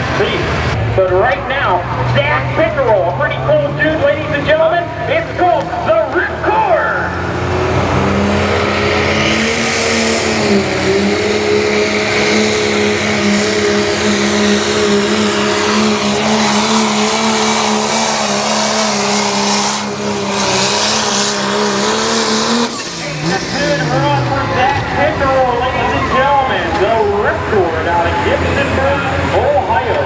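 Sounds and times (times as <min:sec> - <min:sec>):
diesel truck engine at high revs: 0:00.0 - 0:30.0.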